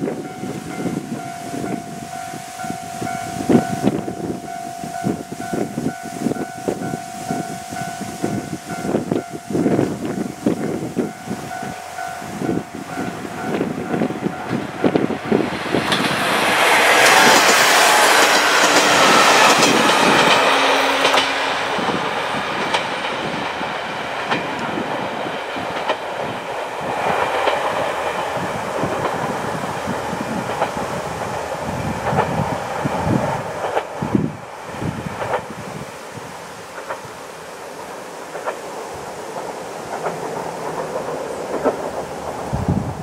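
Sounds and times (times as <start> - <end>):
diesel train engine running: 0.0 - 43.0
wheels clattering over rail joints: 8.3 - 43.0.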